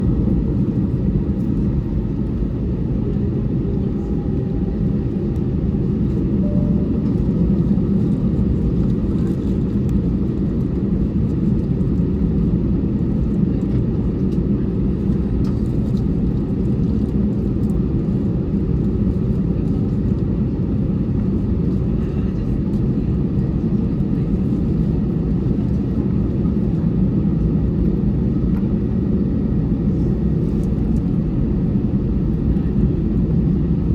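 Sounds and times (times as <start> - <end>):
aircraft cabin engine rumble: 0.0 - 33.9.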